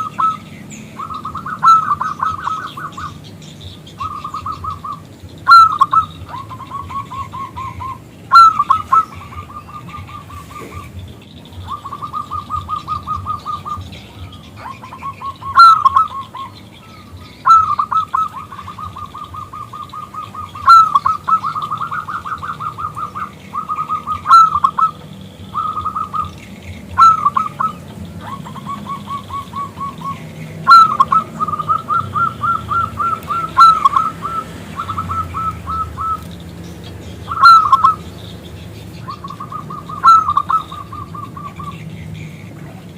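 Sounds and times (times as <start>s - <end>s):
dove cooing in trills: 0.0s - 42.9s.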